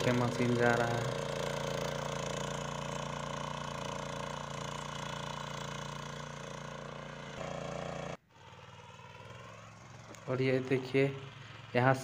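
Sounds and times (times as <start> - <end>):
tiller engine running: 0.0 - 12.0
tines churning soil: 0.0 - 12.0.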